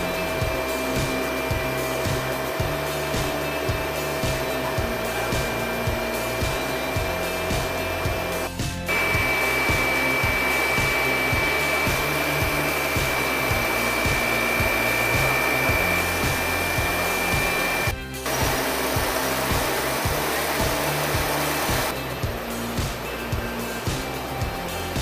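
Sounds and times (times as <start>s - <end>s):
background music with low beat: 0.0s - 25.0s
factory machinery whirring: 0.0s - 25.0s
high steady whine: 0.0s - 25.0s.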